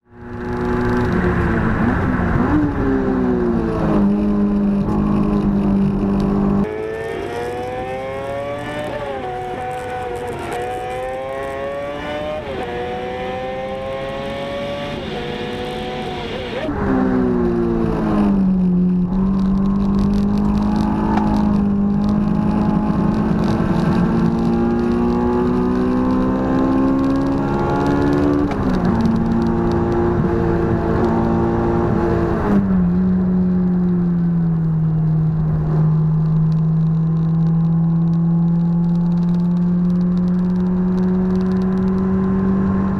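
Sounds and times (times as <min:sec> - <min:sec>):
engine popping and crackling: 0:00.2 - 0:02.6, 0:04.0 - 0:06.7, 0:07.3 - 0:16.7, 0:17.8 - 0:42.9.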